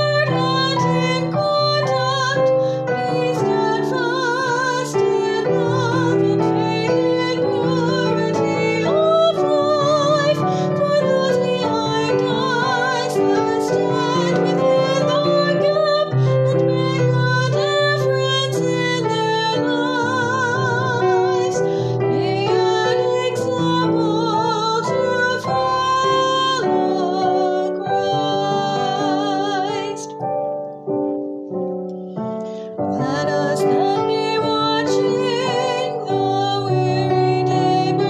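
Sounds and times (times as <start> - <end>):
woman singing with vibrato: 0.0 - 30.2, 32.9 - 38.0
instrumental accompaniment: 0.0 - 38.0.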